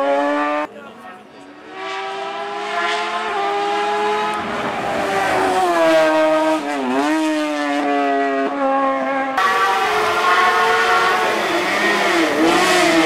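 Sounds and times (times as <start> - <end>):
race car engine at high revs: 0.0 - 13.0.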